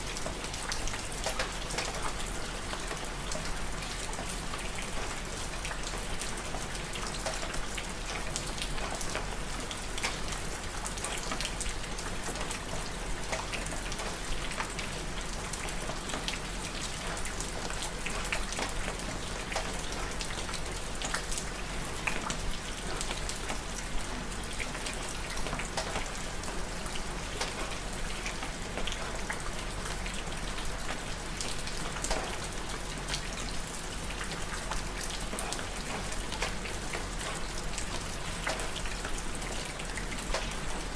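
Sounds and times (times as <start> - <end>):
hiss of falling rain: 0.0 - 40.9
rain drops ticking on hard surface: 0.0 - 40.9.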